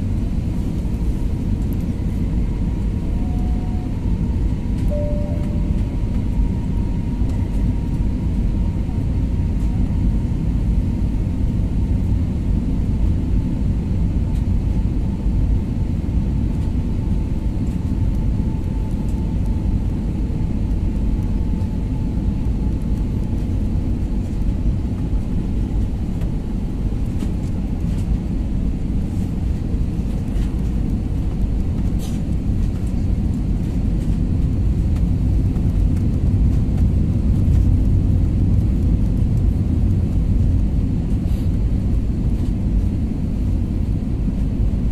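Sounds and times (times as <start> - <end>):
airliner cabin rumble: 0.0 - 44.9
faint whine: 0.0 - 44.9.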